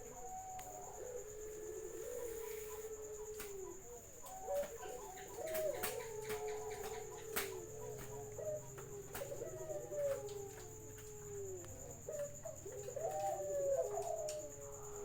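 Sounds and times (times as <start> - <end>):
doves cooing: 0.0 - 15.0.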